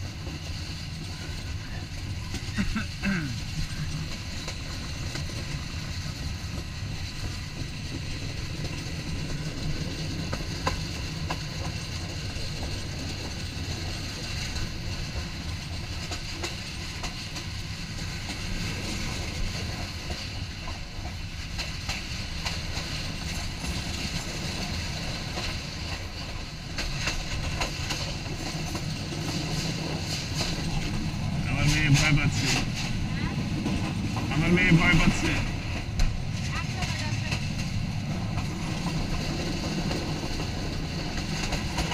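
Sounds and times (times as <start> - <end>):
train rumbling along track: 0.0 - 41.9
wheels clicking over rail joints: 0.0 - 41.9.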